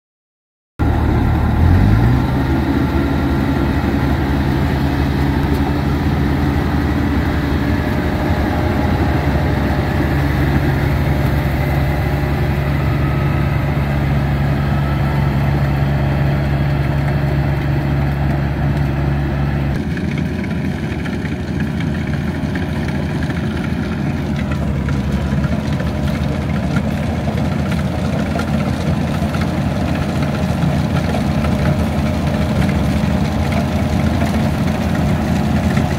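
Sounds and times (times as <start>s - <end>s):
diesel engine humming: 0.8s - 35.9s.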